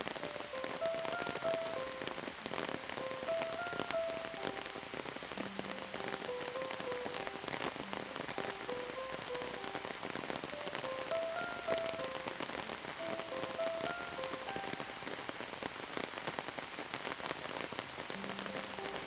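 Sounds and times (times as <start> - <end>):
slow soft melody: 0.0 - 15.8, 17.8 - 19.0
rain drops ticking: 0.0 - 19.0.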